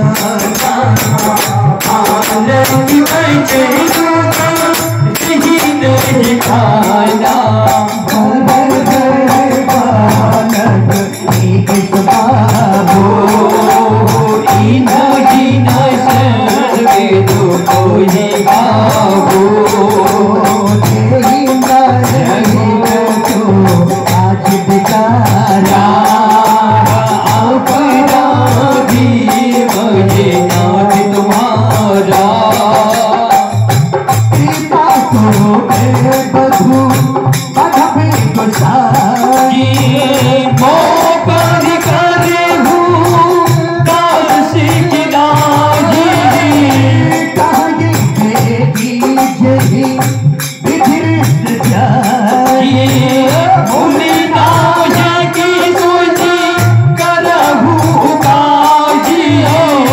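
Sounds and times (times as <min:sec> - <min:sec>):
drum beating steady rhythm: 0:00.0 - 0:59.9
harmonium: 0:00.0 - 0:59.9
jingling percussion: 0:00.0 - 0:59.9
person singing: 0:00.0 - 0:59.9.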